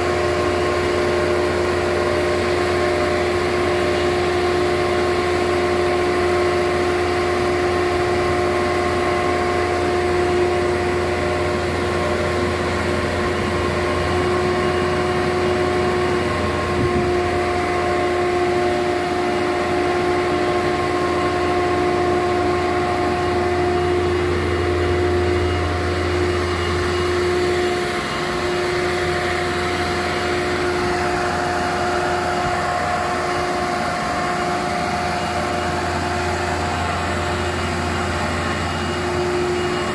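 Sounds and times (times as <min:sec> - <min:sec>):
engine running steadily: 0:00.0 - 0:39.9
engine whine: 0:00.0 - 0:39.9.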